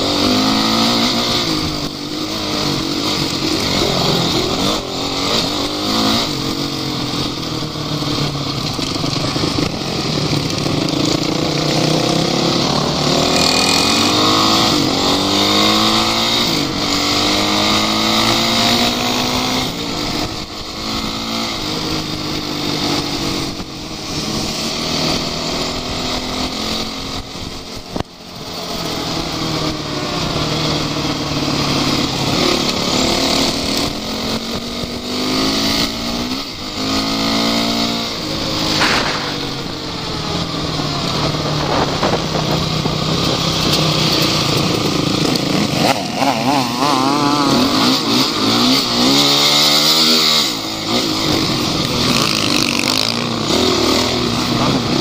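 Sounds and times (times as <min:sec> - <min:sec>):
off-road vehicle engines revving: 0:00.0 - 0:55.0.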